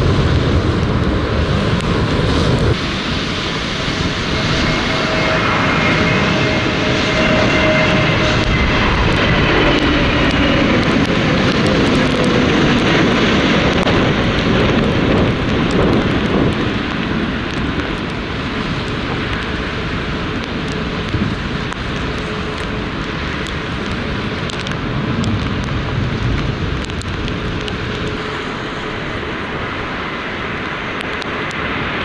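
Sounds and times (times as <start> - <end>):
jet airliner passing by: 0.0 - 32.0.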